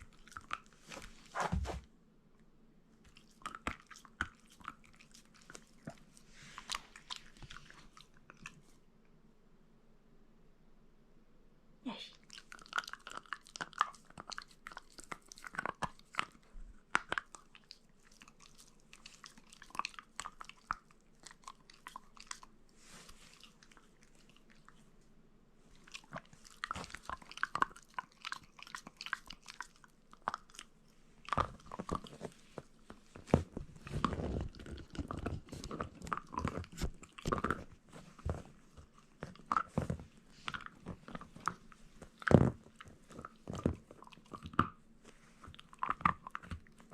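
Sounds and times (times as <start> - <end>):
dog crunching and chewing meat: 0.0 - 1.6, 3.1 - 8.7, 12.2 - 24.8, 25.7 - 46.9.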